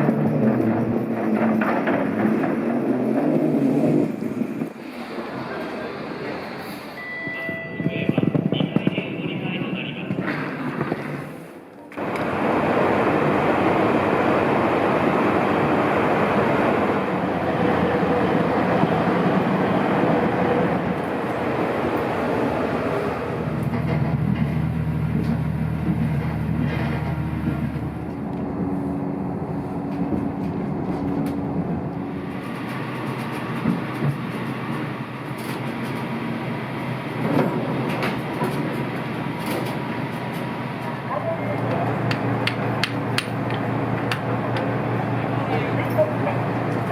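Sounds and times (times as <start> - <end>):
train running noise: 0.0 - 46.9.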